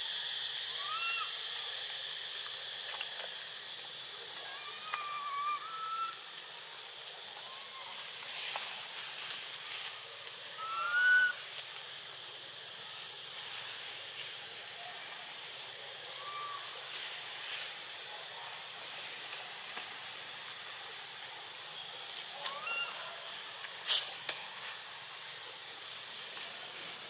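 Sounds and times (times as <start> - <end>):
insect chorus hiss: 0.0 - 27.0.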